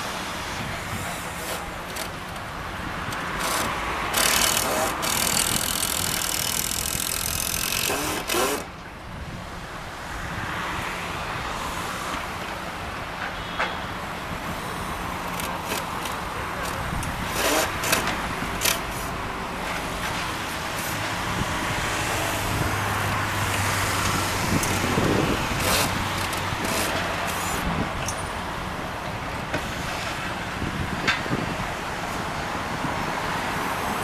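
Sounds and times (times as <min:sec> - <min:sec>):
excavator at work: 0:00.0 - 0:09.0, 0:10.8 - 0:34.0
road traffic drone: 0:00.0 - 0:34.0.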